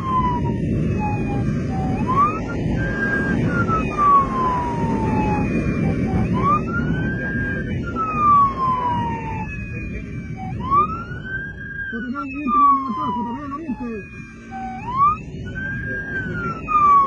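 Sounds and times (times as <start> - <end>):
motorcycle engine rumble: 0.0 - 17.0
police siren wailing: 0.0 - 17.0.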